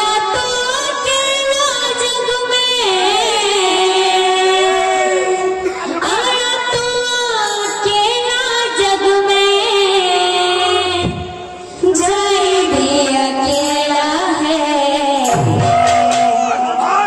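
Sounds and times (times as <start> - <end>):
woman singing devotional song: 0.0 - 15.6.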